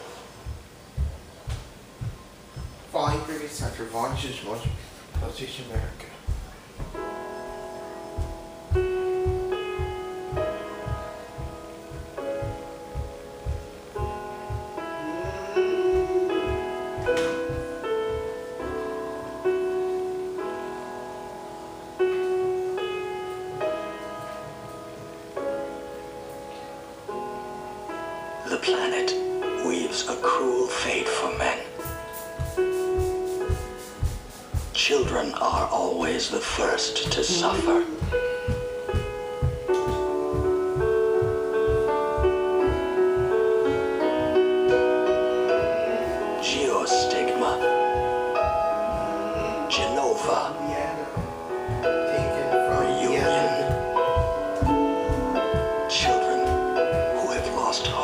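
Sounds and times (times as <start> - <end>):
soft low thuds: 0.0 - 20.1, 31.3 - 58.0
low rhythmic pulse: 0.0 - 20.7, 30.7 - 58.0
held keyboard notes: 0.0 - 58.0
slow piano music: 0.0 - 58.0.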